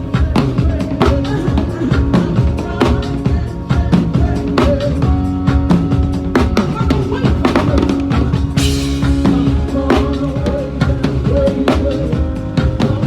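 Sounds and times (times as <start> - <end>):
bass notes: 0.0 - 13.0
drum kit steady beat: 0.0 - 13.0
held keyboard notes: 0.0 - 13.0.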